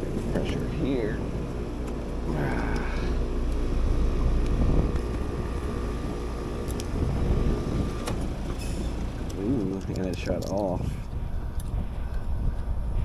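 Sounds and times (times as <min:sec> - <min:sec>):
heat pump unit humming: 0:00.0 - 0:13.0.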